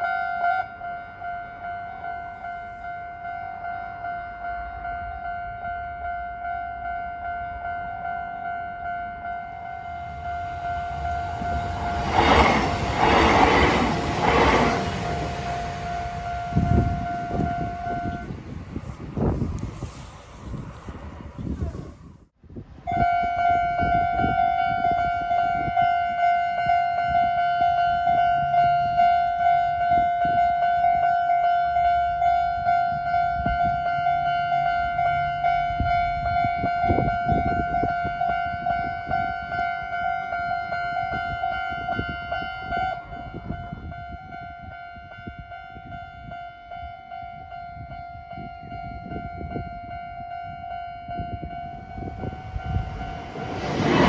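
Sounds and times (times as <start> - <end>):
level crossing warning bell: 0.0 - 19.0, 23.2 - 54.0.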